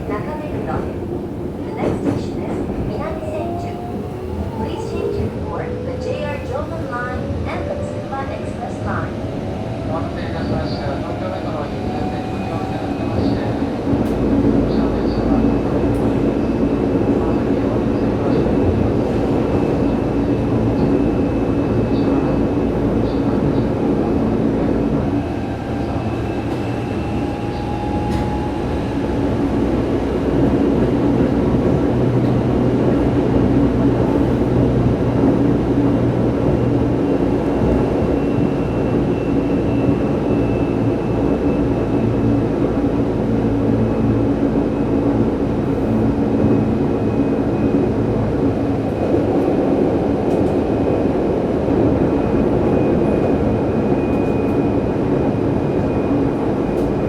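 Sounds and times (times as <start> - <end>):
train wheel-on-rail rumble: 0.0 - 57.0.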